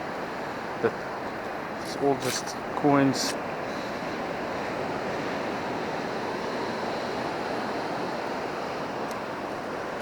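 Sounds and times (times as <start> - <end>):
ocean surf washing onto beach: 0.0 - 10.0.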